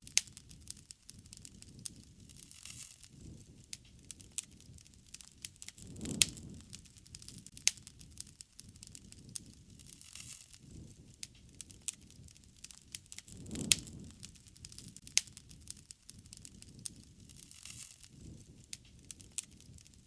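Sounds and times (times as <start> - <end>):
low rumble of flames: 0.0 - 20.0
sharp pops of burning wood: 0.0 - 20.0
wood fire crackling: 0.0 - 20.0.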